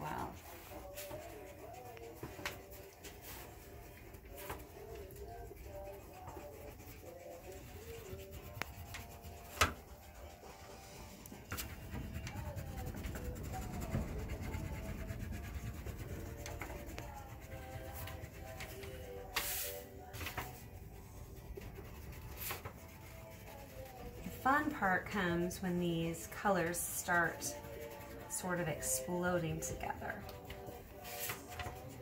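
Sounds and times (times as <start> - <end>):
wax crayon rubbing on paper: 0.0 - 32.0.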